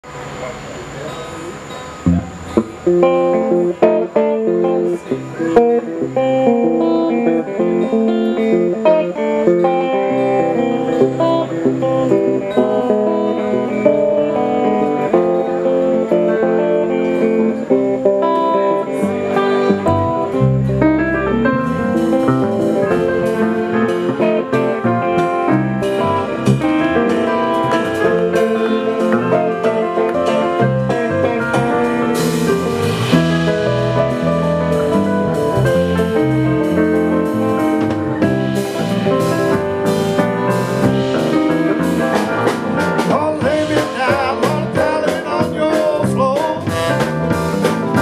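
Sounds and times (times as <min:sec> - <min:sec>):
guitar picking blues: 0:00.2 - 0:48.0.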